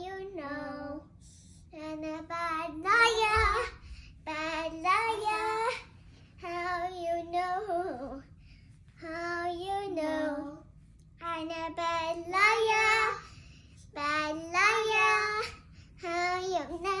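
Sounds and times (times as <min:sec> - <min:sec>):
girl singing: 0:00.0 - 0:08.3, 0:09.0 - 0:17.0.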